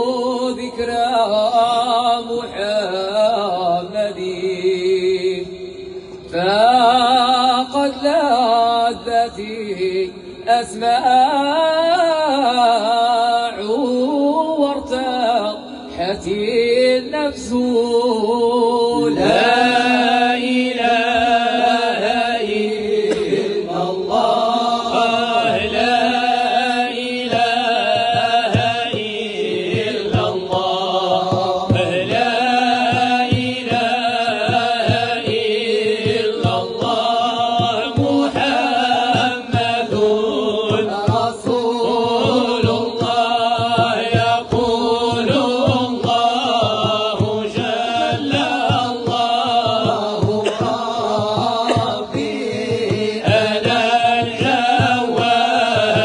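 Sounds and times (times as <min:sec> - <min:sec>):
man singing devotional chant: 0:00.0 - 0:56.0.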